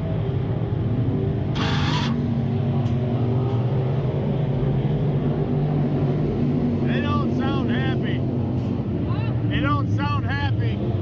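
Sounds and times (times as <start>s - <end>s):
race engine idling: 0.0s - 11.0s.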